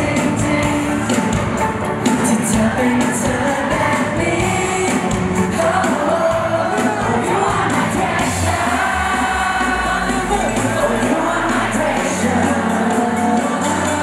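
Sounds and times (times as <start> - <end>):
bass guitar: 0.0 - 14.0
drums: 0.0 - 14.0
men singing into microphones: 0.0 - 14.0.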